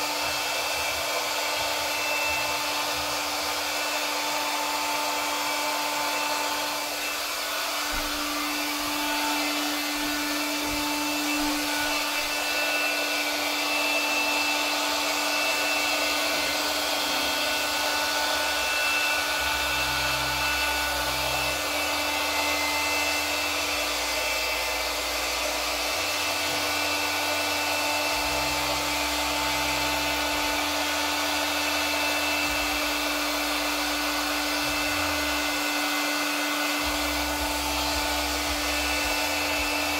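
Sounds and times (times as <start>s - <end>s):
hot-air blower rushing airflow: 0.0s - 39.9s.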